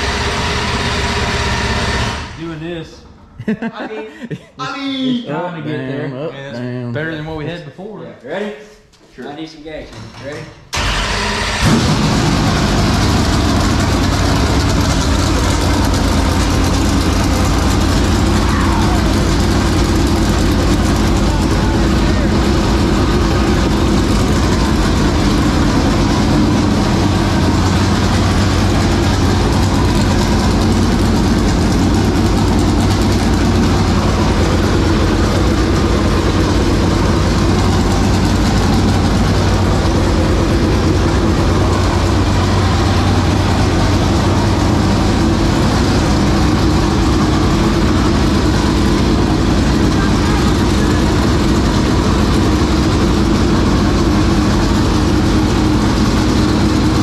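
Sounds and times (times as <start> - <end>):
race car engine idling: 0.0 - 2.4, 10.8 - 57.0.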